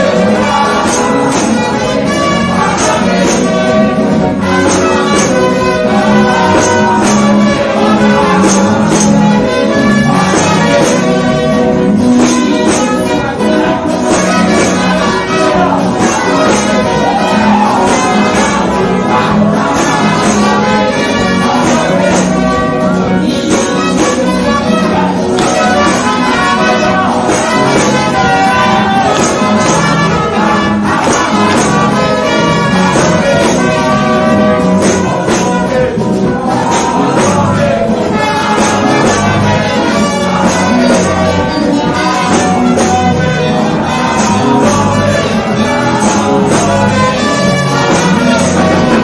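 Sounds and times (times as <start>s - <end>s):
band with percussion beat: 0.0s - 49.0s.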